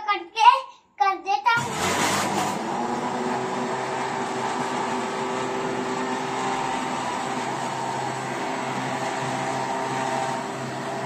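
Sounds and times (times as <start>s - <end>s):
blender motor whirring: 1.6s - 11.0s.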